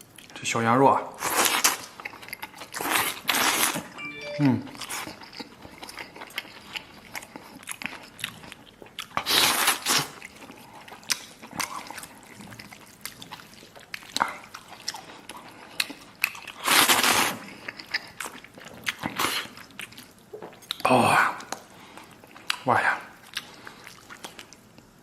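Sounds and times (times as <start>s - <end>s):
chewing and biting food: 1.1s - 4.0s, 4.9s - 24.8s.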